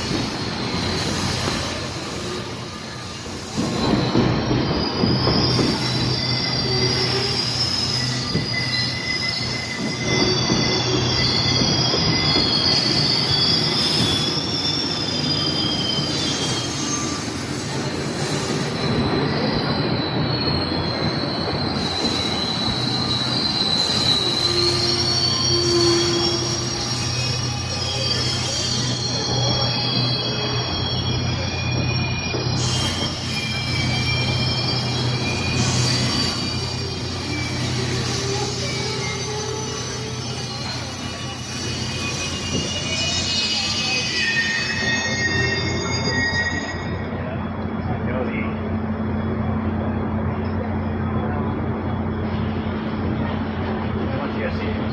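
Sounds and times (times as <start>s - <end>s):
train rumbling on rails: 0.0s - 54.9s
train wheels squealing: 0.0s - 54.9s.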